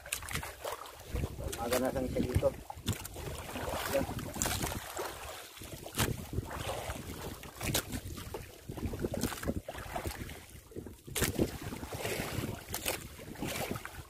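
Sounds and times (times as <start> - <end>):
waves slapping boat hull: 0.0 - 14.0
wind buffeting microphone: 0.3 - 14.0.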